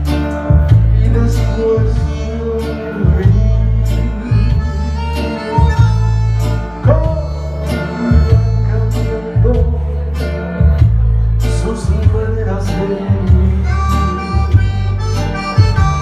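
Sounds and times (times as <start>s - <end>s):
backing music with guitar and bass: 0.0s - 16.0s
man singing into a microphone: 0.0s - 16.0s.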